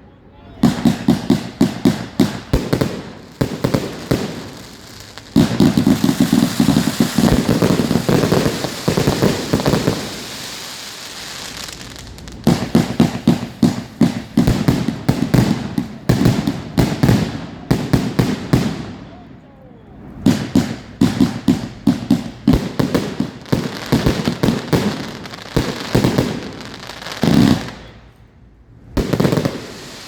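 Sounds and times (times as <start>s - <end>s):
firework cake launch reports: 0.0s - 30.0s
firework crackling: 0.6s - 19.2s, 20.0s - 28.2s, 28.9s - 30.0s.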